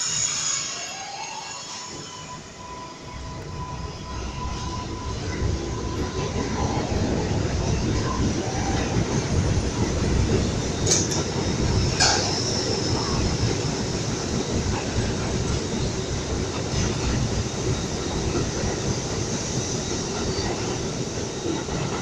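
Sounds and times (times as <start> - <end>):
subway train rumble and wheel clatter: 0.0 - 22.0.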